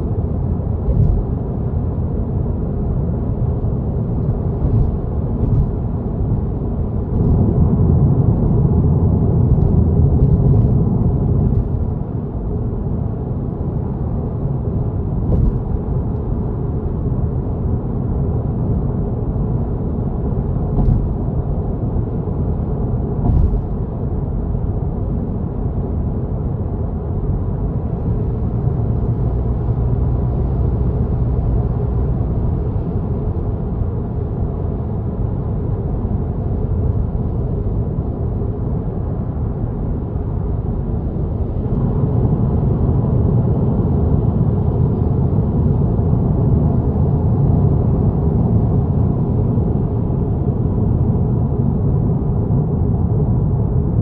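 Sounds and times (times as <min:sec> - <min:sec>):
car driving at speed: 0:00.0 - 0:54.0.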